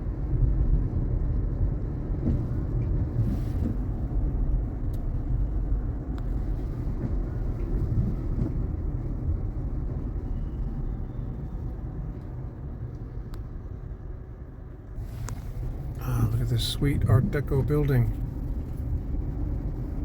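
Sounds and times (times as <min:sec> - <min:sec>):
car road rumble on wet road: 0:00.0 - 0:20.0.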